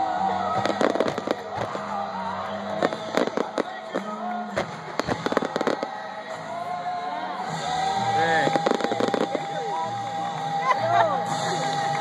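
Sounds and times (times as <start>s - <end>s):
fireworks bangs and crackles: 0.0s - 10.6s
music playing: 0.0s - 12.0s.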